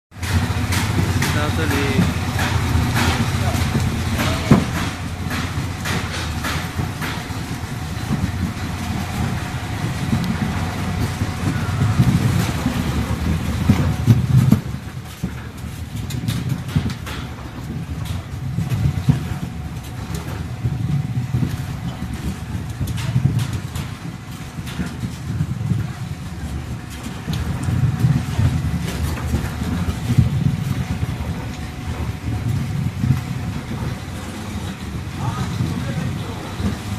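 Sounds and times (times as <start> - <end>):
mill grinding with low rumble: 0.1 - 36.9.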